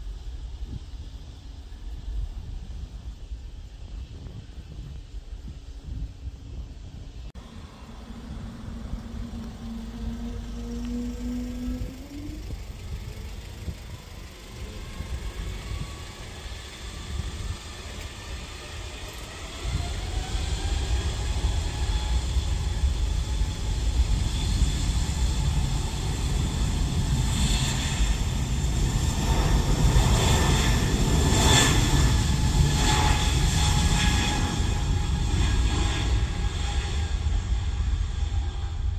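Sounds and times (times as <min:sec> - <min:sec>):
jet engines spooling up: 0:05.8 - 0:38.9.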